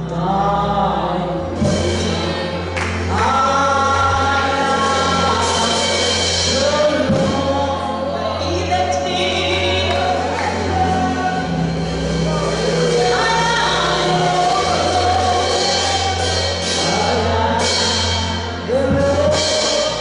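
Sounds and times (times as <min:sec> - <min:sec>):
choir singing gospel music: 0:00.0 - 0:20.0.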